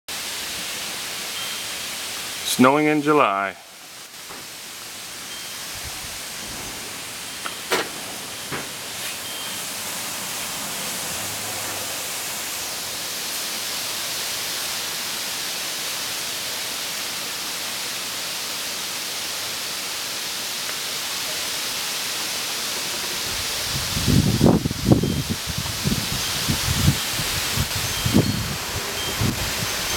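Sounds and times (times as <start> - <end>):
wind rustling leaves: 0.1 - 29.9.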